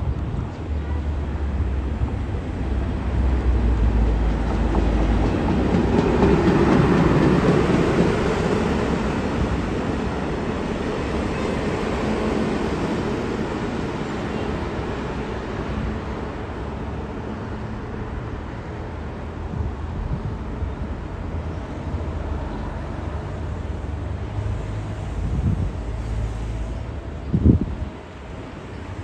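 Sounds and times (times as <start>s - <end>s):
rail van passing on track: 0.0s - 29.0s.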